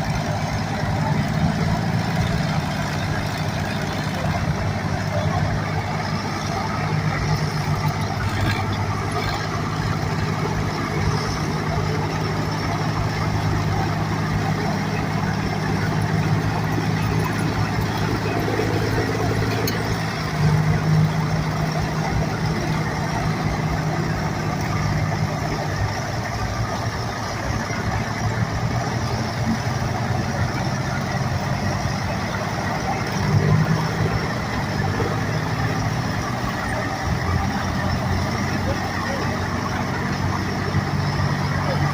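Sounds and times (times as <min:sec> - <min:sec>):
large engine idling: 0:00.0 - 0:41.9.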